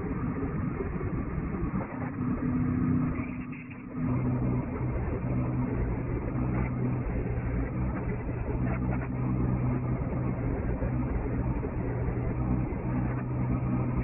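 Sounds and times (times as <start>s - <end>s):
engine running: 1.7s - 14.0s.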